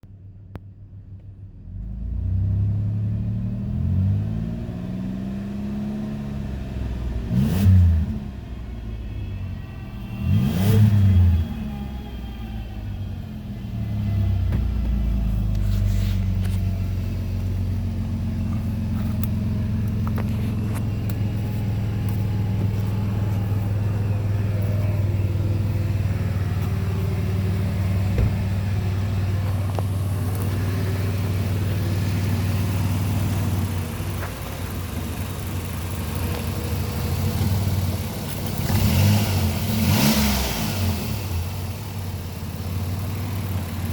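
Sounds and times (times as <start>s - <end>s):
car engine revving and idling: 0.2s - 43.9s.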